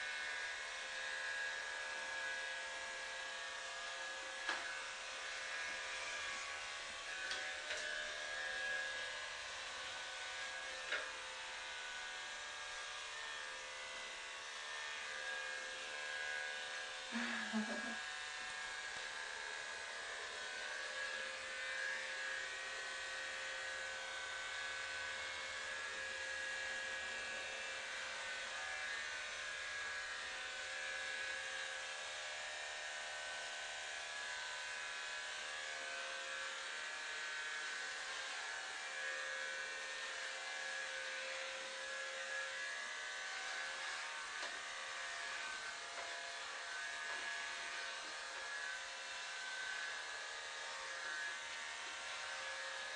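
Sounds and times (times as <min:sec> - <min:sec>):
electric hair clippers buzzing: 0:00.0 - 0:52.9.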